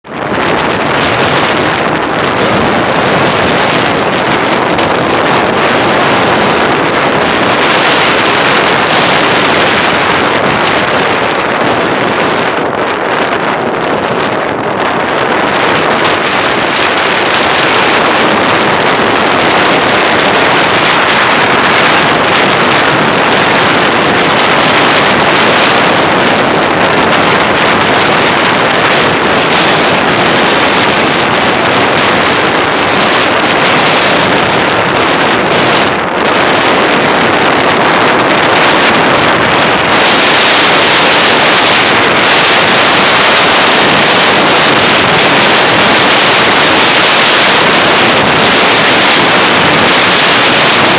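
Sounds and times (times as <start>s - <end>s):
motorcycle road and engine noise: 0.0s - 50.9s
wind noise on microphone: 0.0s - 50.9s.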